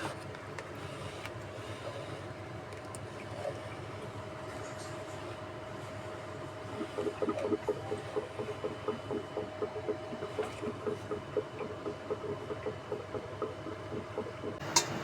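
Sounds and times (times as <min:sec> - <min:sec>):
liquid bubbling on the boil: 0:02.3 - 0:15.0.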